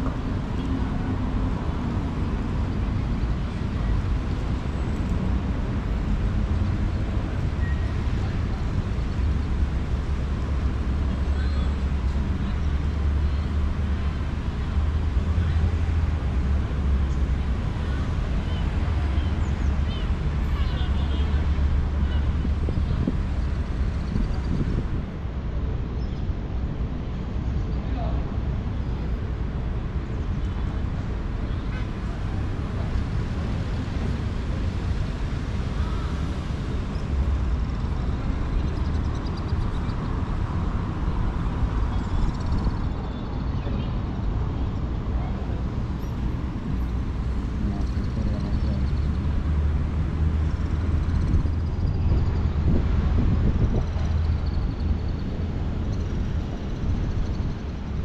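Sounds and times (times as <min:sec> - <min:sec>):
city background noise: 0:00.0 - 0:58.0
traffic rumble: 0:00.0 - 0:58.0.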